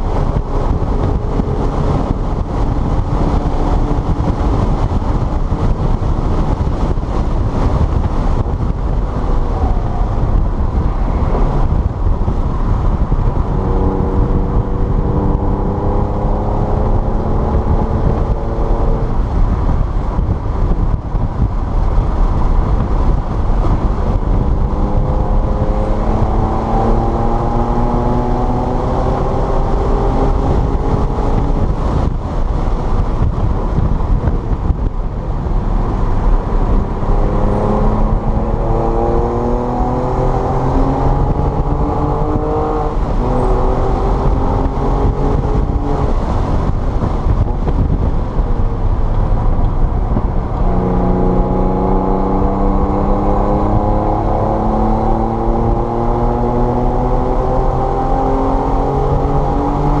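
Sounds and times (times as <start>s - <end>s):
car engine accelerating: 0.0s - 60.0s
wind and road noise: 0.0s - 60.0s.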